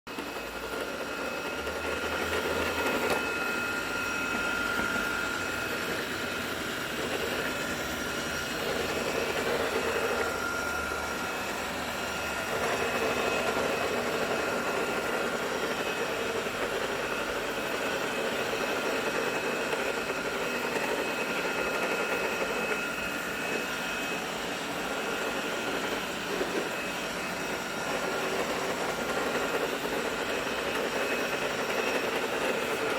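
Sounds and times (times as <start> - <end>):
machine whining over rough hum: 0.1 - 32.9.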